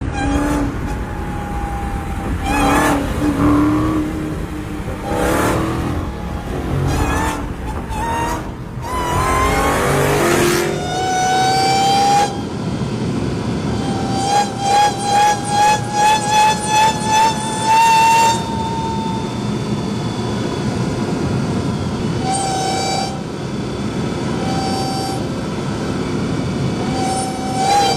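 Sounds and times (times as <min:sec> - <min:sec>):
sports car engines revving: 0:00.0 - 0:27.9.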